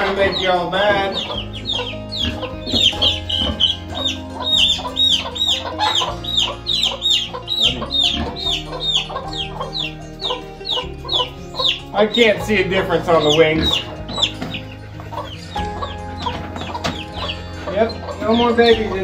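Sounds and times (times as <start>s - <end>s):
baby chicks peeping: 0.0s - 19.0s.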